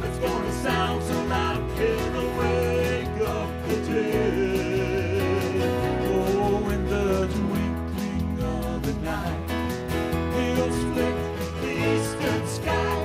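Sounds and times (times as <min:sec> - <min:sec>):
electric bass: 0:00.0 - 0:13.0
stage piano: 0:00.0 - 0:13.0
strummed acoustic guitars: 0:00.0 - 0:13.0.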